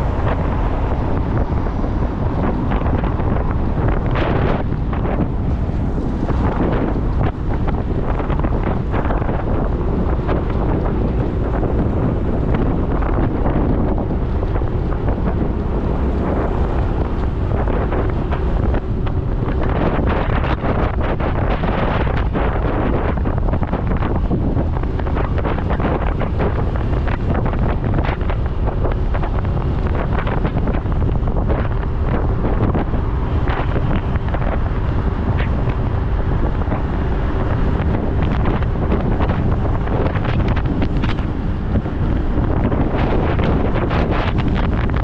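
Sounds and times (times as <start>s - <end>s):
road noise: 0.0s - 45.0s
wind buffeting microphone: 0.0s - 45.0s.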